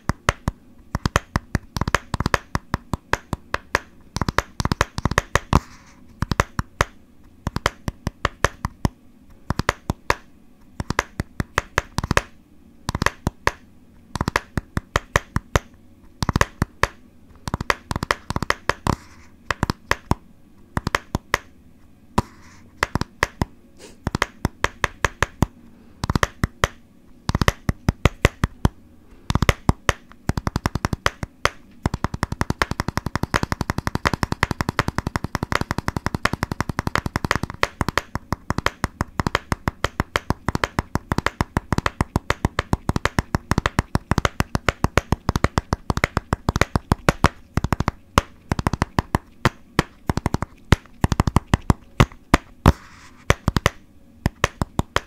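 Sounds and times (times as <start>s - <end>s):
fingers tapping: 0.0s - 21.5s, 22.2s - 55.0s.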